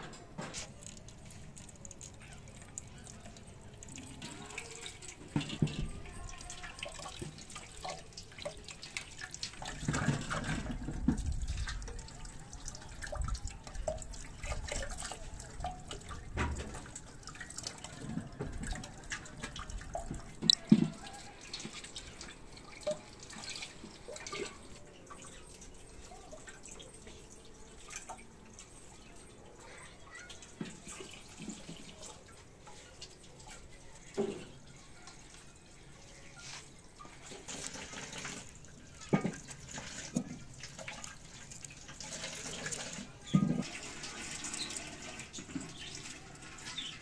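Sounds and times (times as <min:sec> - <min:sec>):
tap water splashing into sink: 0:00.0 - 0:25.4, 0:30.1 - 0:35.5, 0:37.0 - 0:47.0.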